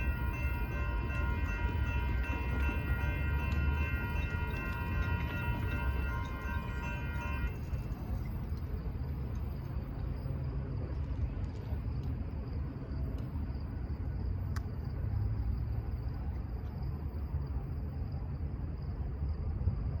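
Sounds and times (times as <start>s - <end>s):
cricket trill: 0.0s - 20.0s.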